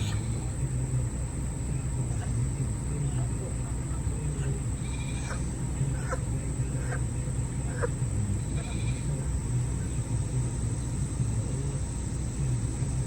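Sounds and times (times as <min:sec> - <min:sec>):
gas burner rumbling: 0:00.0 - 0:13.0.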